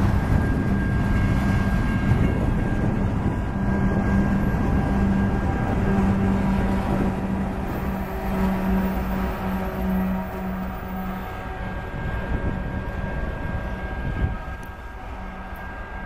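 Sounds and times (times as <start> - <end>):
diesel locomotive humming: 0.0 - 16.0
train cars rumbling on rails: 0.0 - 16.0.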